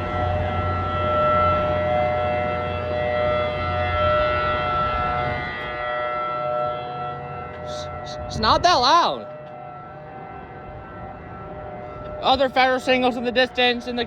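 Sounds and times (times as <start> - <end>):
warning siren held tones: 0.0 - 14.0.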